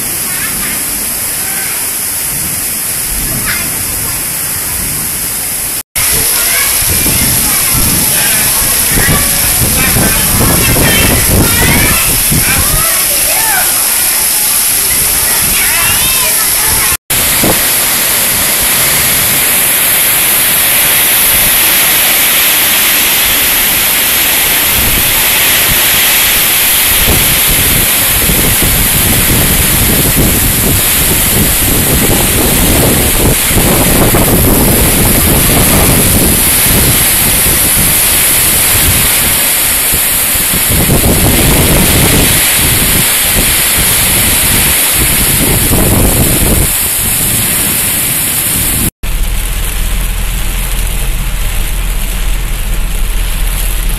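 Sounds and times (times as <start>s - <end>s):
heavy rain splashing on concrete: 0.0s - 53.9s
wind gusts on microphone: 0.0s - 53.9s.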